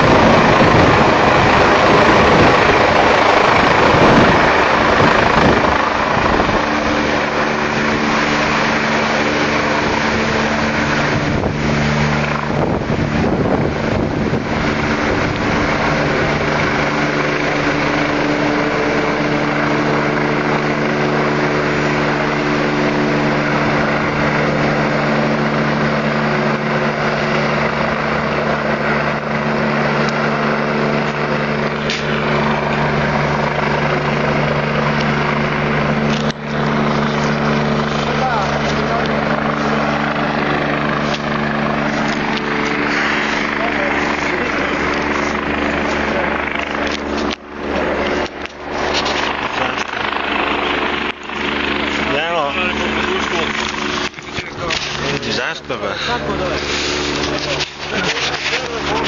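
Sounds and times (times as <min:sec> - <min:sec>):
helicopter hovering: 0:00.0 - 0:59.0.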